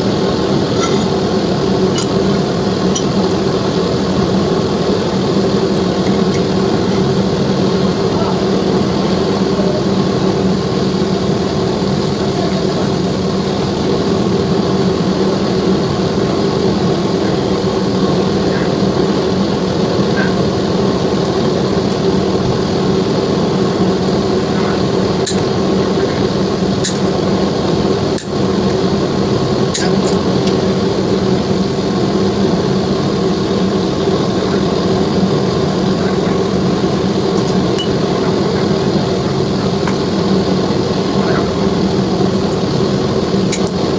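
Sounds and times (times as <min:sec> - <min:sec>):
loud machine hum: 0:00.0 - 0:43.9.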